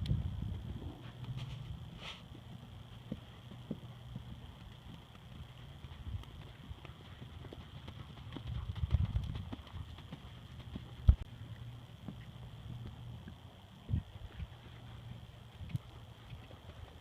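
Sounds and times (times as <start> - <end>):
wind rumbling on microphone: 0.0 - 7.6, 8.2 - 10.0, 12.0 - 17.0
horse hoofbeats: 0.4 - 17.0.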